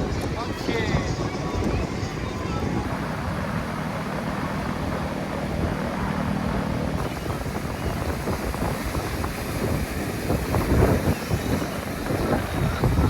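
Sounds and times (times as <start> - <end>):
low engine hum: 0.0 - 13.0
wind rumbling on microphone: 0.0 - 13.0.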